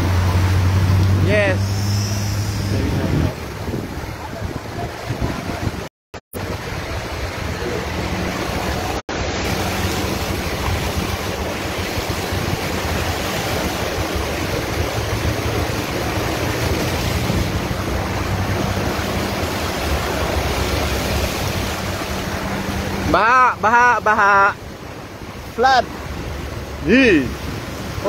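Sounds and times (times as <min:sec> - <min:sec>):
air buffeting microphone: 0:00.0 - 0:28.0
low engine hum: 0:00.0 - 0:28.0
tyres churning water: 0:00.0 - 0:28.0.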